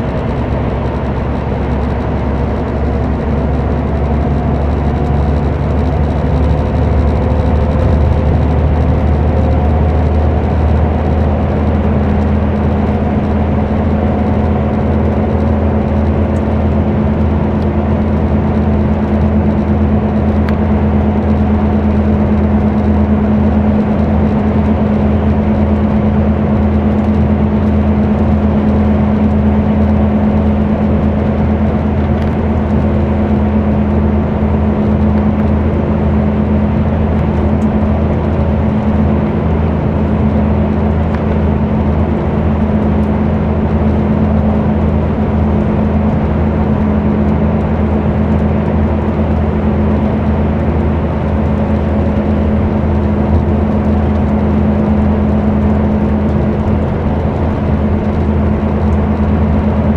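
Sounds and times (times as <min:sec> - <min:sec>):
diesel engine hum: 0:00.0 - 0:59.9
road noise: 0:00.0 - 0:59.9.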